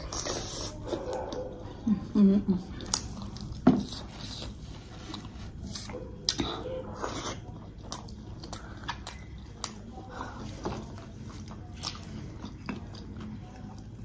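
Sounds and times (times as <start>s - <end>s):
person chewing food: 2.7s - 14.0s.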